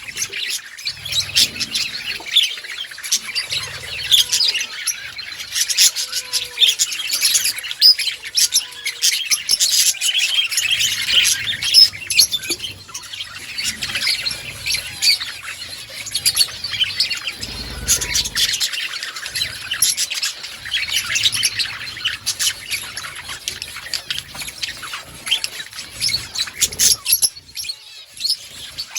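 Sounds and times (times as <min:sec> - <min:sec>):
budgerigars chirping and chattering: 0:00.0 - 0:28.9.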